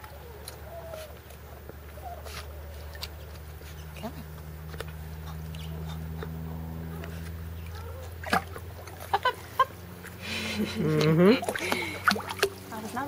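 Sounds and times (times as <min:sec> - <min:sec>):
puppy splashing in water: 0:00.0 - 0:13.0
steady low hum: 0:00.0 - 0:13.0.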